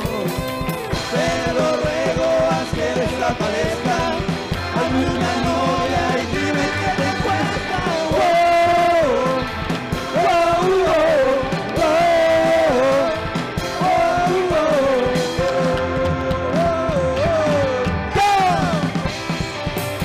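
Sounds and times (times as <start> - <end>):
rockabilly band playing: 0.0 - 20.0.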